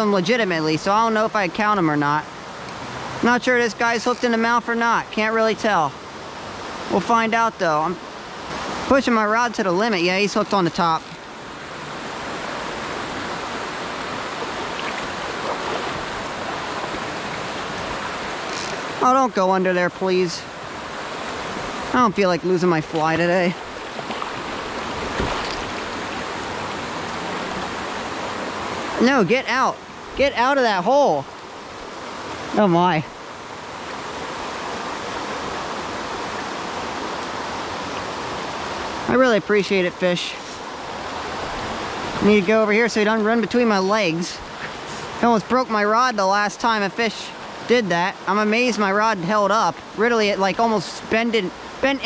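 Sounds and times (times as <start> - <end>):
creek water flowing: 0.0 - 52.0.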